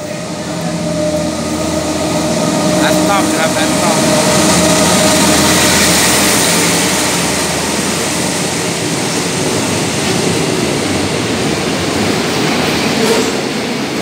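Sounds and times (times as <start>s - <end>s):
diesel locomotive engine drone: 0.0s - 14.0s
train wheels rumbling on rails: 0.0s - 14.0s.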